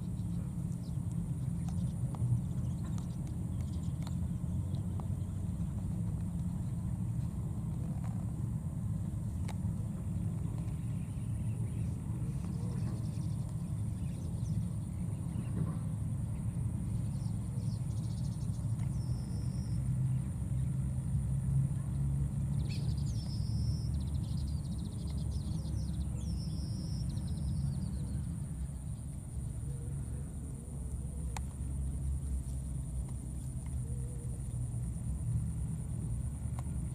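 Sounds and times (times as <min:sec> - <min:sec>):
low outdoor rumble: 0:00.0 - 0:36.9.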